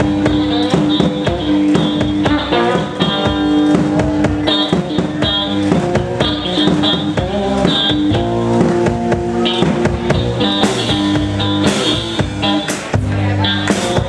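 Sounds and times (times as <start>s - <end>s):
bass drum beat: 0.0s - 14.0s
blues guitar playing: 0.0s - 14.0s.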